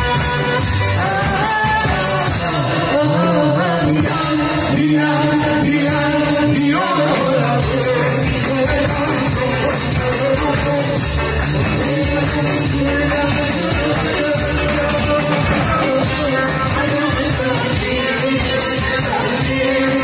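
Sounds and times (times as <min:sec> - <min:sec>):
woman and man singing: 0:00.0 - 0:20.0.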